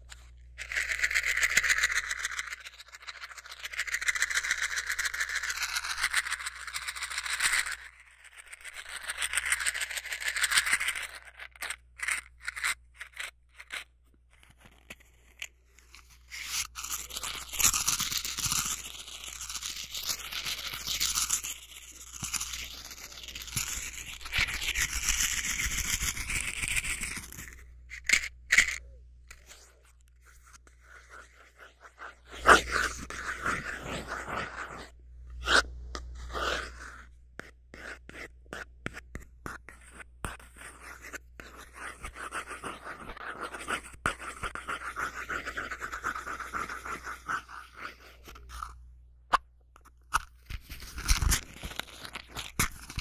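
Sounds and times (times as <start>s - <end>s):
scraping and rubbing of small objects: 0.0s - 48.8s, 49.8s - 53.0s.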